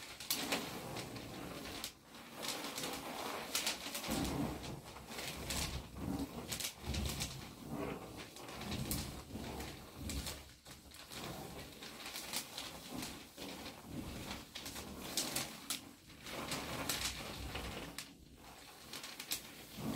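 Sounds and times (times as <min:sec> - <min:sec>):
soft rubbing against wall: 0:00.0 - 0:19.9.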